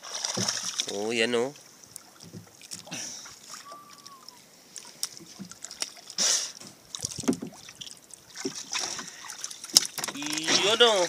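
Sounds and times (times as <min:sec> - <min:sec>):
water splashing around boat: 0:00.0 - 0:11.0.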